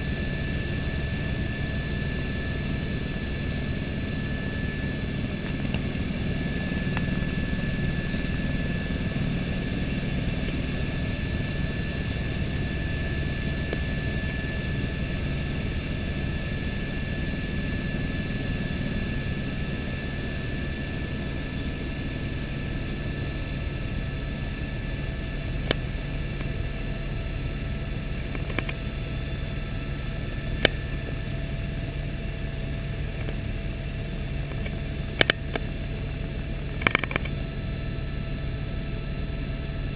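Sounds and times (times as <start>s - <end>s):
helicopter engine and rotor drone: 0.0s - 39.9s
high steady whine: 0.0s - 39.9s.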